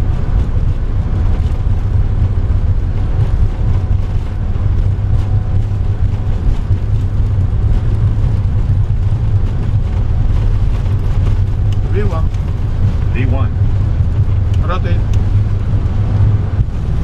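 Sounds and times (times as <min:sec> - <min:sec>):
jet airliner taking off rumble: 0:00.0 - 0:17.0.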